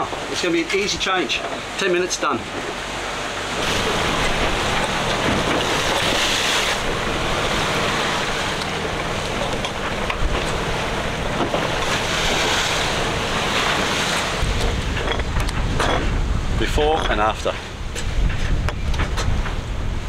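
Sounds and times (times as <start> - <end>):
wind and sea rushing: 0.0 - 20.0
wind buffeting microphone: 3.4 - 20.0.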